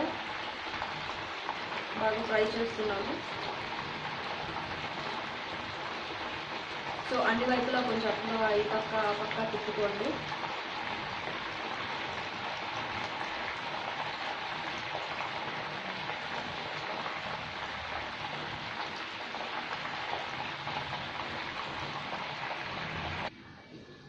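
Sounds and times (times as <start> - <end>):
food deep-frying in hot oil: 0.0 - 23.8.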